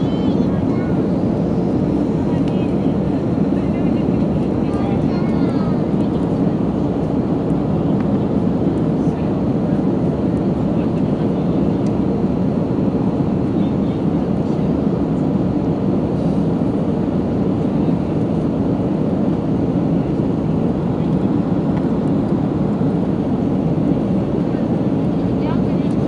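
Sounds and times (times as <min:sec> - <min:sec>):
jet engines and rushing air: 0:00.0 - 0:26.0.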